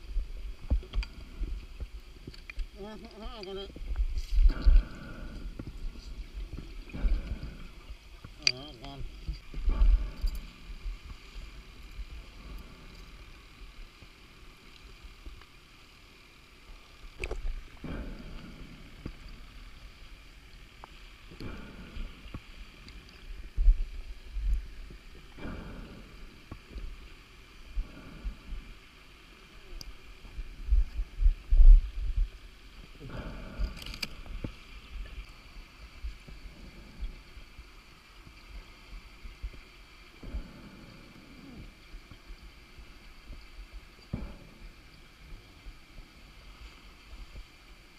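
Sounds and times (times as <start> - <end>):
underwater bubbles gurgling: 0.0 - 47.9.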